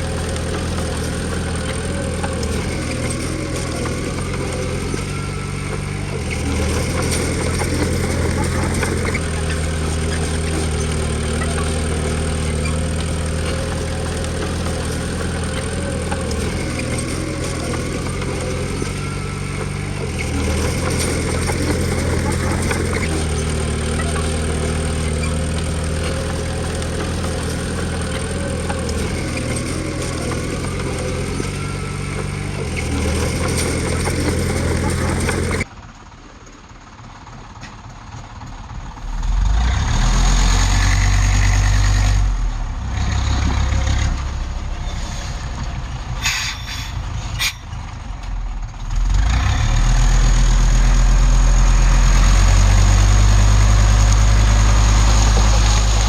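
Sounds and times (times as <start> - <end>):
bulldozer diesel engine running: 0.0 - 56.0
deep engine sound: 0.0 - 56.0.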